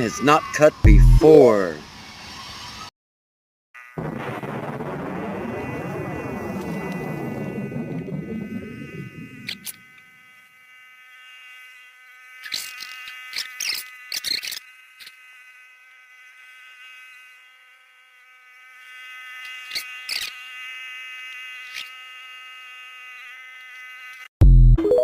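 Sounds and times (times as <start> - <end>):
lawnmower buzzing whine: 3.8 - 24.3.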